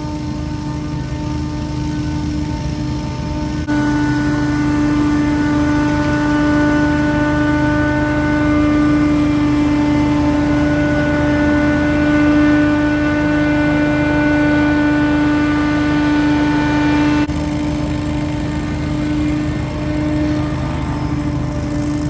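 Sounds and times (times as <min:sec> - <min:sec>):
leaf blower running: 0:00.0 - 0:22.0.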